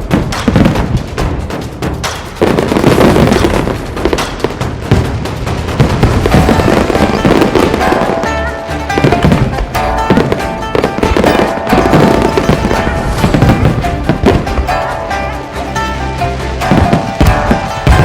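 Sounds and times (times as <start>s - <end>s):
fireworks crackling and banging: 0.0s - 18.0s
music: 0.0s - 18.0s.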